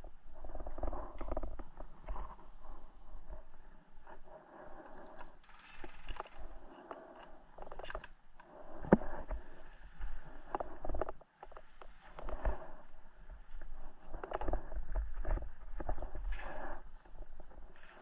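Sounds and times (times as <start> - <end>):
clothing and gear rustling: 0.2 - 18.0.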